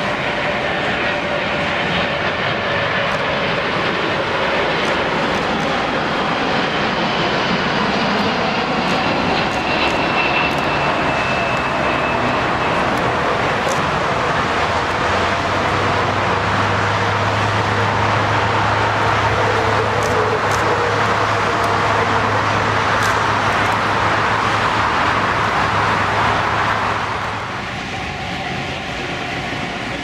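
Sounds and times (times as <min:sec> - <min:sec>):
jet engines passing: 0:00.0 - 0:30.0.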